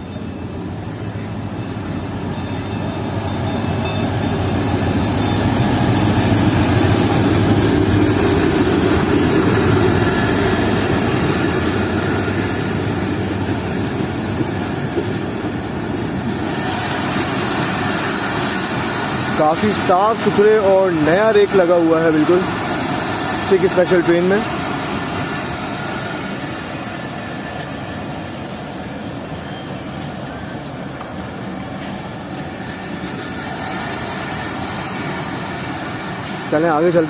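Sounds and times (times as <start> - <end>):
high squeal from train: 0.0 - 37.0
train rumbling past: 0.0 - 37.0.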